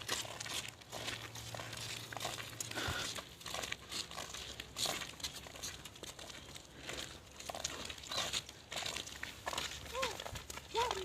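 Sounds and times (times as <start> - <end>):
footsteps crunching on dry ground: 0.0 - 11.0.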